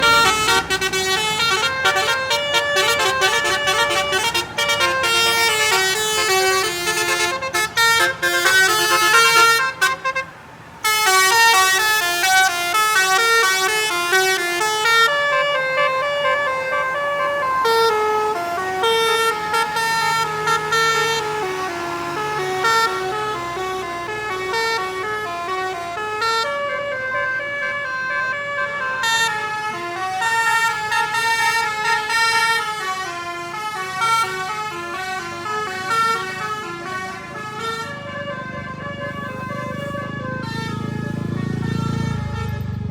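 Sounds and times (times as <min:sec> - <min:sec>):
bus musical horn tune: 0:00.0 - 0:42.9.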